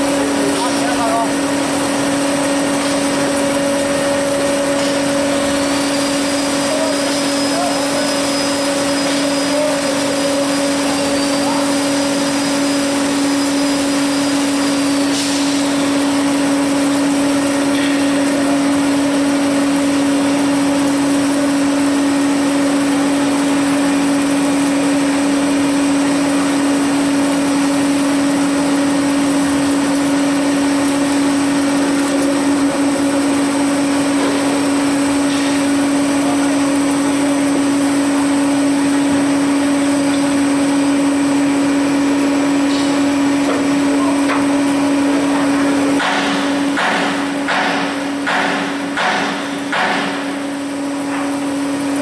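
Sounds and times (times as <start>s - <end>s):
drilling machine motor hum: 0.0s - 52.0s.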